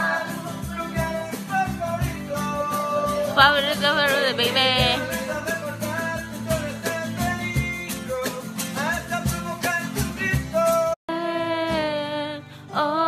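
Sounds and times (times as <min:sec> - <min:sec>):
acoustic guitar strumming: 0:00.0 - 0:12.9
person singing: 0:00.0 - 0:13.0.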